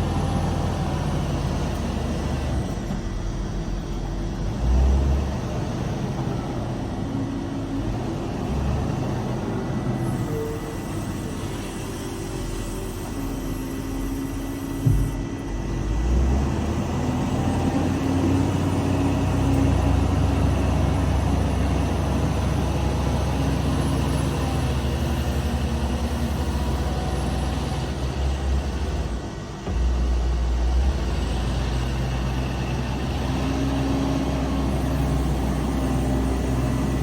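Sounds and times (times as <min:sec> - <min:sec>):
large engine running: 0:00.0 - 0:37.0.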